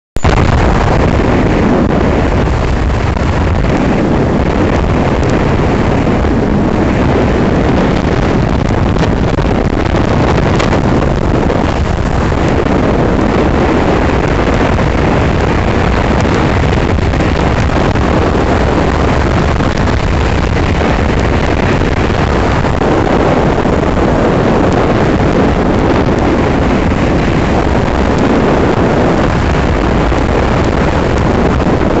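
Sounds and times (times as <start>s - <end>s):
wind buffeting microphone: 0.2s - 32.0s.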